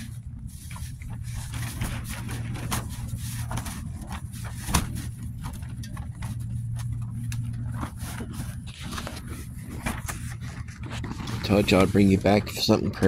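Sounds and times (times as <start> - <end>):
tarp flapping and snapping: 0.6 - 12.1.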